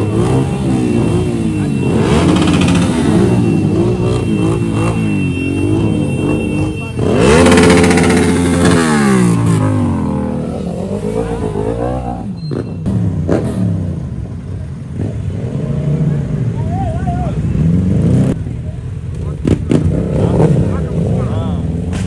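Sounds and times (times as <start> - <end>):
vehicle engines revving: 0.0 - 22.0.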